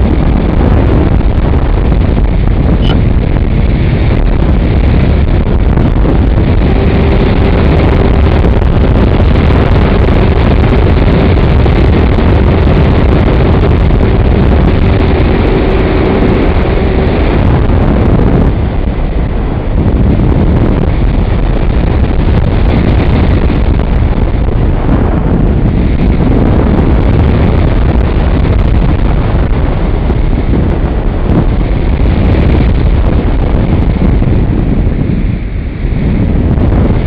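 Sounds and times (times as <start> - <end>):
motor and propeller hum: 0.0 - 37.0
wind buffeting microphone: 0.0 - 37.0.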